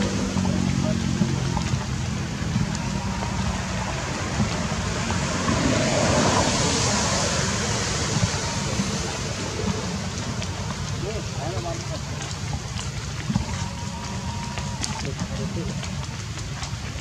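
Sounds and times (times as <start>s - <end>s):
rain falling on foliage: 0.0s - 17.0s.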